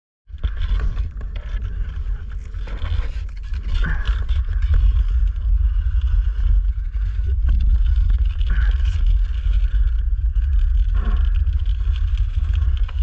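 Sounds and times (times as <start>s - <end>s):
wind buffeting microphone: 0.3s - 13.0s.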